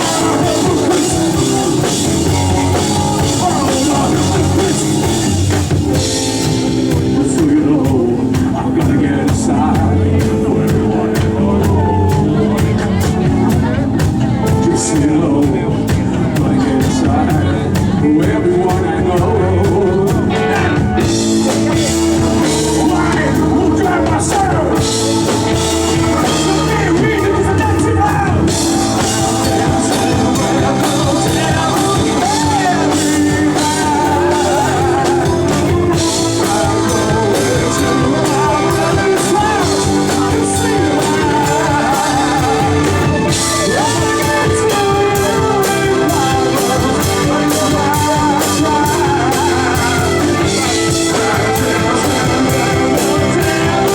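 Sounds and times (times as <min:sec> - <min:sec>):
bass guitar: 0:00.0 - 0:53.9
drum kit with cymbals: 0:00.0 - 0:53.9
electric guitars: 0:00.0 - 0:53.9
person singing: 0:00.0 - 0:53.9.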